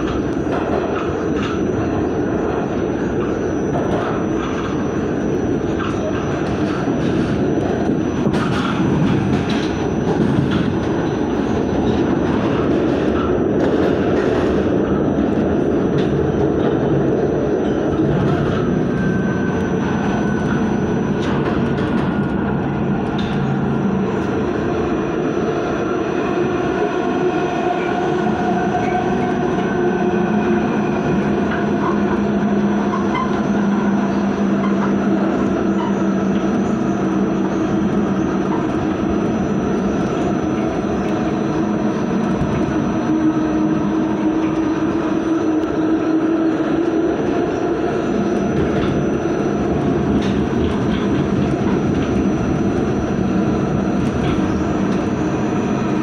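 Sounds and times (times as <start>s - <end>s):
subway train wheels rumbling on rails: 0.0s - 56.0s.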